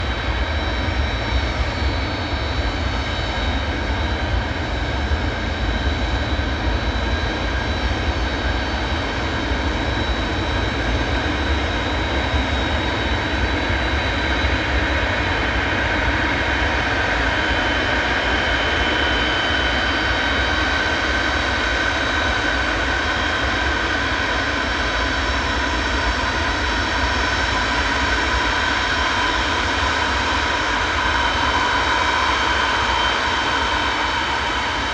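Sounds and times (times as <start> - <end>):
aircraft engines rumbling and whining: 0.0 - 34.9.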